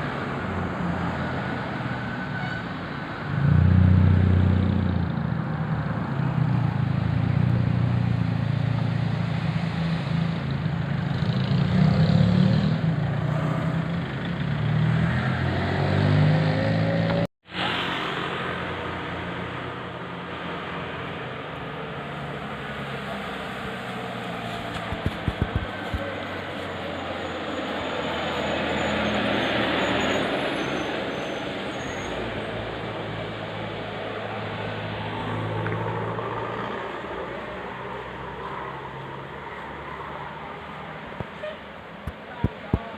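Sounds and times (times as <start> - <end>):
bus engine running and revving: 2.9 - 42.9.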